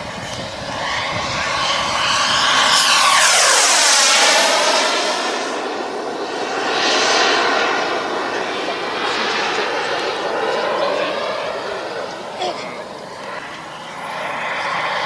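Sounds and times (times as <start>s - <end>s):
jet turbine whine passing: 0.0s - 15.0s.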